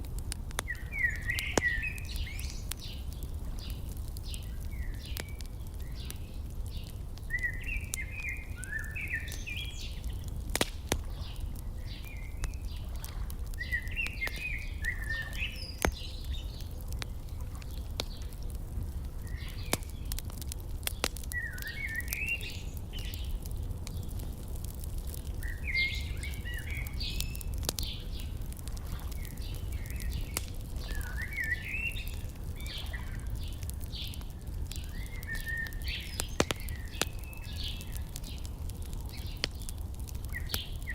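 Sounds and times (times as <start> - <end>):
wood fire crackling and popping: 0.0 - 40.9
songbirds singing: 0.2 - 40.9.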